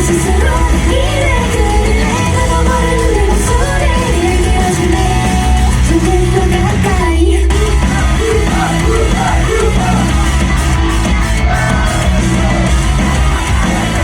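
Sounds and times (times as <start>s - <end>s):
pop music over sound system: 0.0s - 14.0s.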